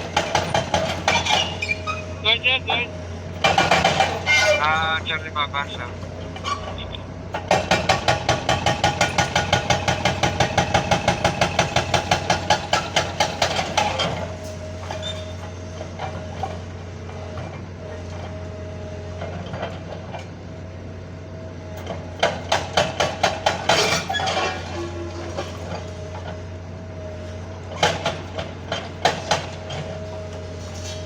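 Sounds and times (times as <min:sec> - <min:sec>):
backhoe engine humming: 0:00.0 - 0:31.0.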